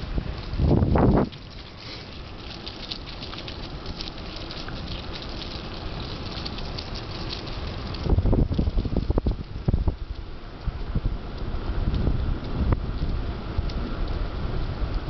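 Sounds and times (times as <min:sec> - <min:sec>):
bike tyres crackling over leaves: 0:00.0 - 0:15.0
wind buffeting microphone: 0:00.0 - 0:15.0.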